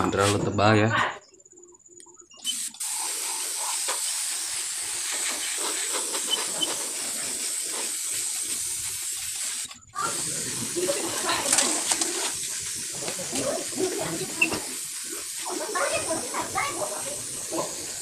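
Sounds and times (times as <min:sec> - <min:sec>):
paint spray gun hissing: 0:02.4 - 0:18.0.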